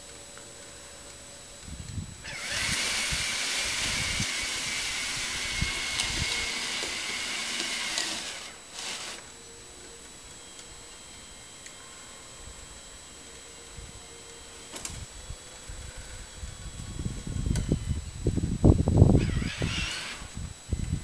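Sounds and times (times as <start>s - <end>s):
small electric motor whining: 1.6s - 21.0s.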